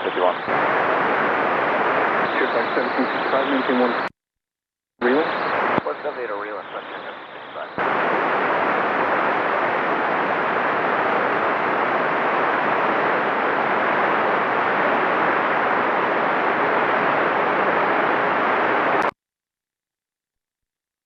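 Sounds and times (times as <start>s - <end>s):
loud static hiss: 0.0s - 4.1s, 5.0s - 19.1s.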